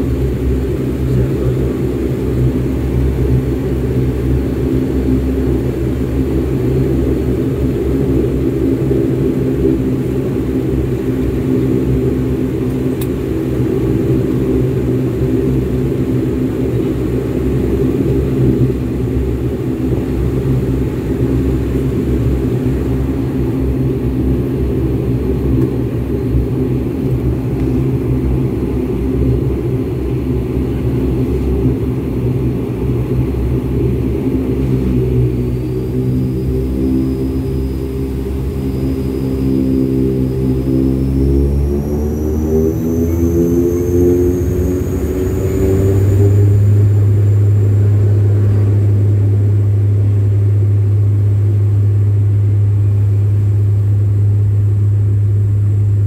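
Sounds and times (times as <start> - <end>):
airliner engines droning: 0.0 - 56.0.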